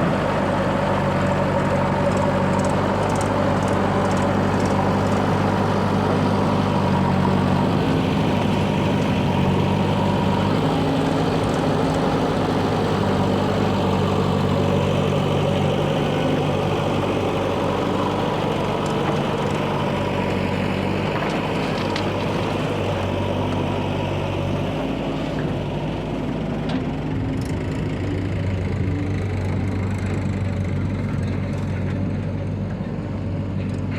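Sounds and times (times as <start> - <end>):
heavy diesel engines running: 0.0 - 33.9.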